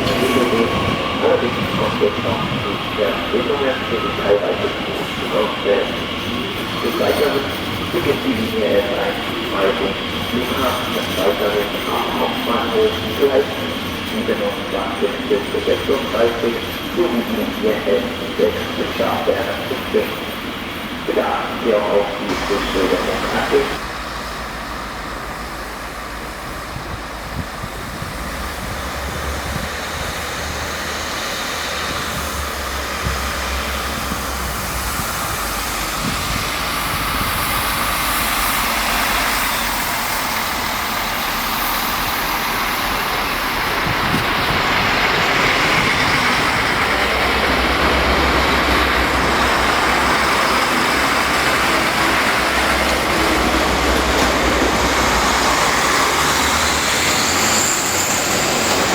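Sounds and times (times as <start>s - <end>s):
train running past: 0.0s - 58.9s.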